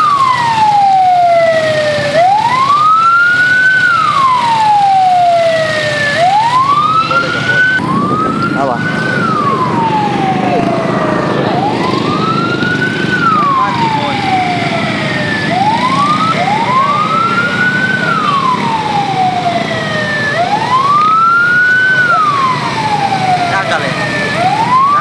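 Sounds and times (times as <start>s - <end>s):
motorcycle engines running: 0.0s - 25.0s
vehicle siren wailing: 0.0s - 25.0s.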